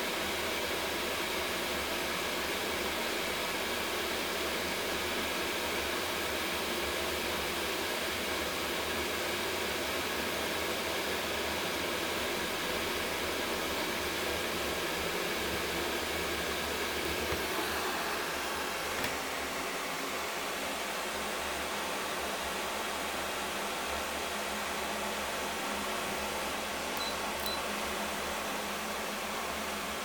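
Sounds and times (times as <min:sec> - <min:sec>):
electric kettle heating water: 0:00.0 - 0:30.0.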